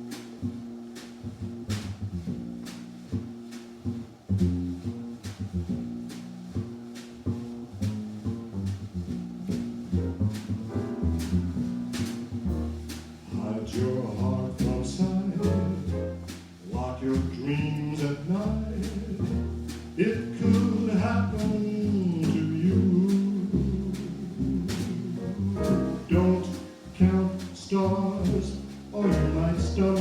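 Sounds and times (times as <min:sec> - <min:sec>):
small jazz band playing: 0:00.0 - 0:30.0.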